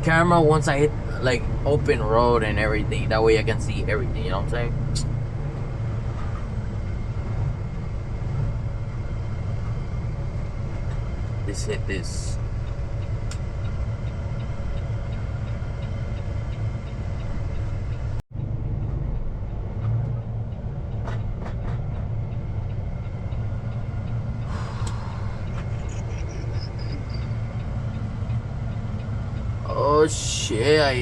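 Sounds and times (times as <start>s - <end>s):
truck diesel engine drone: 0.0s - 31.0s.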